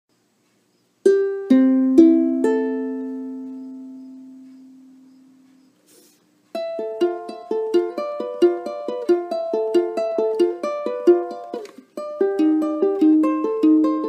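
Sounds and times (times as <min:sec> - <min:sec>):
ukulele notes plucked: 0:01.0 - 0:05.5, 0:06.5 - 0:14.0.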